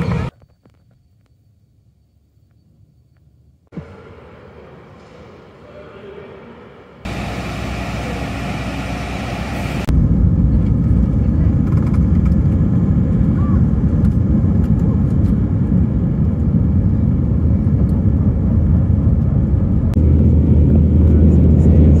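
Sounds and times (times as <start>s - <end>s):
jet engine rumble in cabin: 3.8s - 22.0s.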